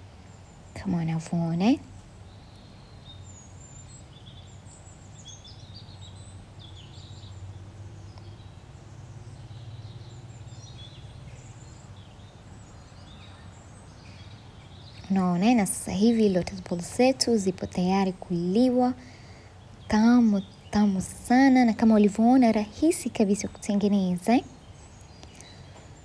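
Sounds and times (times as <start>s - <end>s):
low steady hum: 0.0s - 26.0s
small birds chirping: 0.0s - 26.0s.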